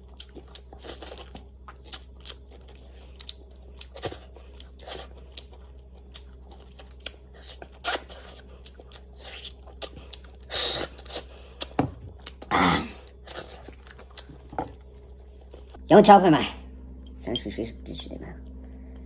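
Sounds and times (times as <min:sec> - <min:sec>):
person chewing and crunching food: 0:00.0 - 0:15.8
steady low hum: 0:00.0 - 0:19.0.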